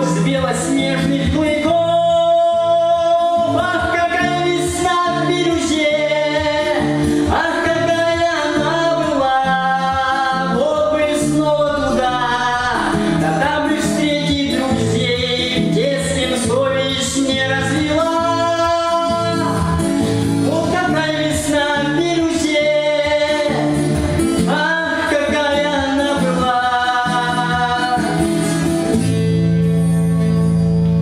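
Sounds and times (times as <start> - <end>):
man singing long notes: 0.0 - 28.6
guitar accompaniment: 0.0 - 31.0.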